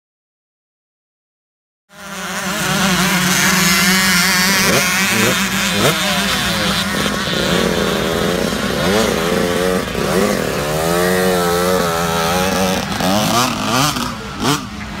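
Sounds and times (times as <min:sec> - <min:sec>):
dirt bike engines revving: 0:01.9 - 0:15.0
low engine drone: 0:01.9 - 0:15.0.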